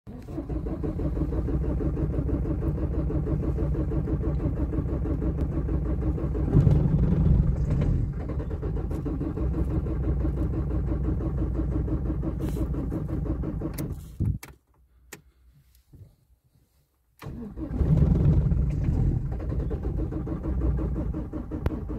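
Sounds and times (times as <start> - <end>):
engine running: 0.1 - 14.1, 17.2 - 21.9.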